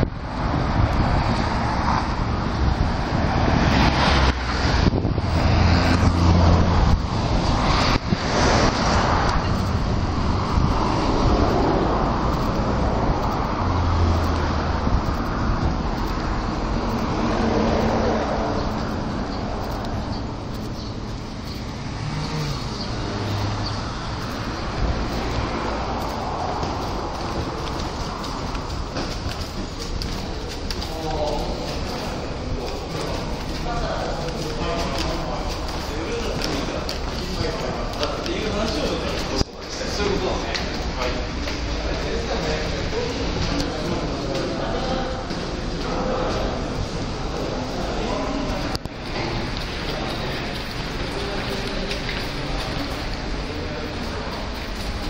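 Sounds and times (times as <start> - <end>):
cars driving past: 0.0 - 55.0.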